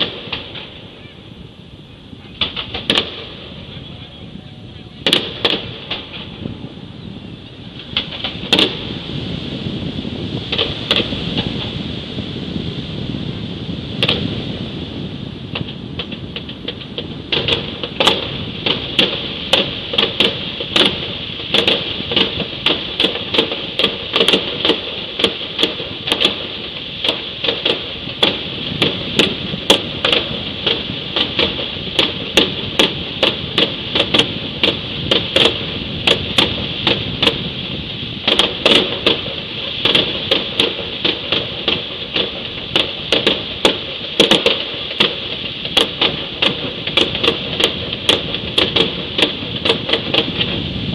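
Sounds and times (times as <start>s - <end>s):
fireworks popping: 0.0s - 1.4s, 2.2s - 6.8s, 7.5s - 50.9s
fireworks bangs: 0.0s - 50.9s
high hiss: 0.0s - 50.9s.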